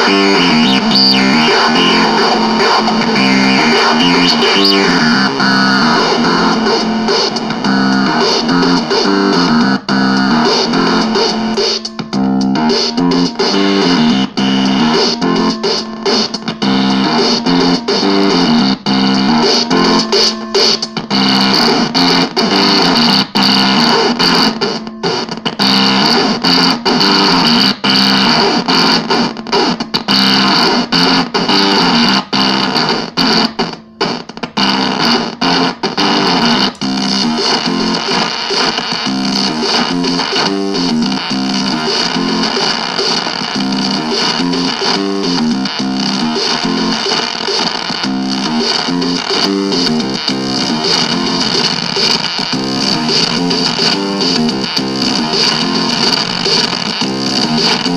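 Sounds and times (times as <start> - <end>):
distorted synth through guitar amp: 0.0 - 57.9.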